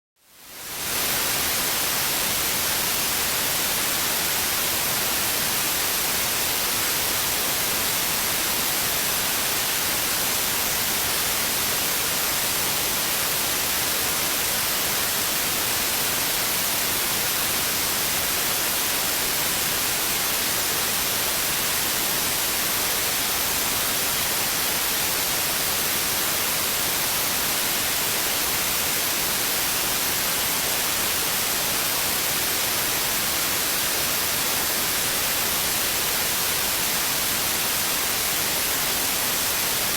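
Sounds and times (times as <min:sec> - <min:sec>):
white noise hiss: 0:00.2 - 0:39.9.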